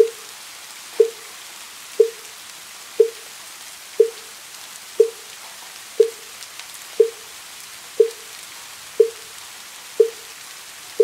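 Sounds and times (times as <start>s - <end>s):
soft patter of rain: 0.0s - 11.0s.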